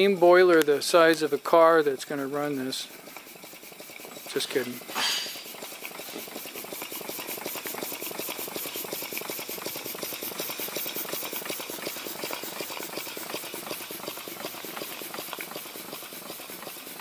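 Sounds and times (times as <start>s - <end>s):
steam engine exhaust puffs: 0.0s - 17.0s.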